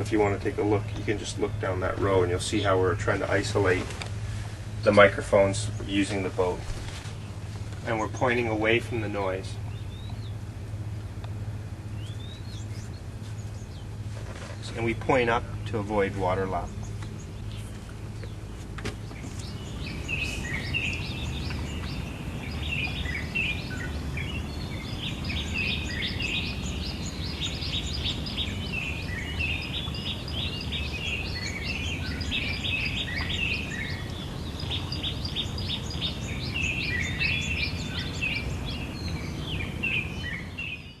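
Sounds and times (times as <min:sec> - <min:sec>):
birds chirping and whistling: 0:00.0 - 0:10.4, 0:11.8 - 0:41.0
distant boat engines rumbling: 0:00.0 - 0:41.0.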